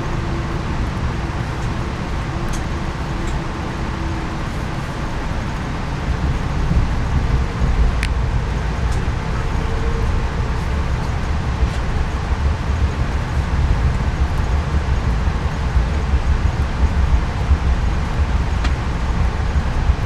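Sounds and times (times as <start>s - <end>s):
train rumbling from inside: 0.0s - 20.0s.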